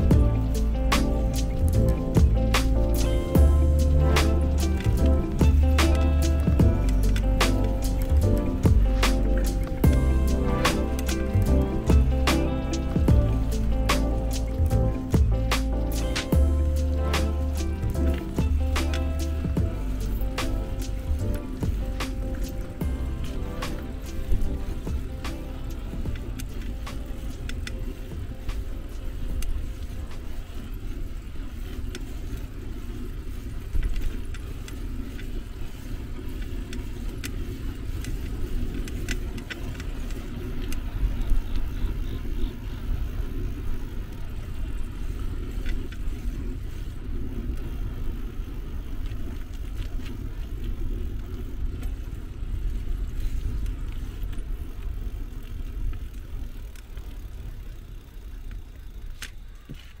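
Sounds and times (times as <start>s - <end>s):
bicycle rattles and clicks: 0.0s - 60.0s
road rumble: 0.0s - 60.0s
wind: 0.0s - 60.0s.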